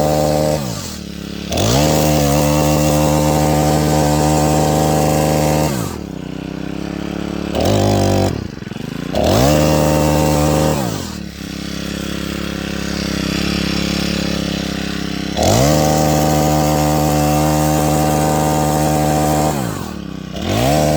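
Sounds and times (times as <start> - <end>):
chainsaw engine revving and idling: 0.0 - 20.9.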